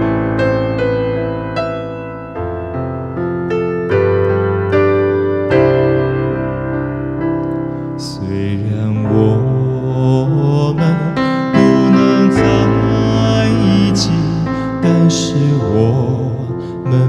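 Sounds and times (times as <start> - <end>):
electronic keyboard piano melody: 0.0 - 17.0.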